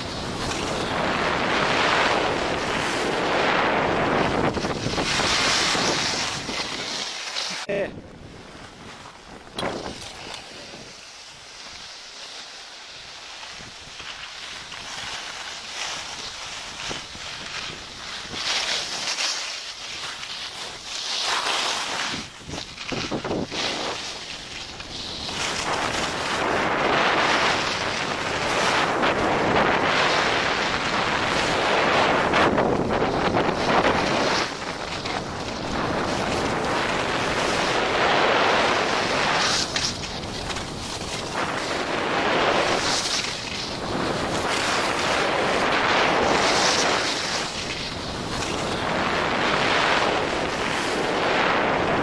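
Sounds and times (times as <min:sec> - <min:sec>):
wind noise on microphone: 0:00.0 - 0:11.9, 0:21.7 - 0:52.0
skis sliding over snow: 0:00.0 - 0:52.0.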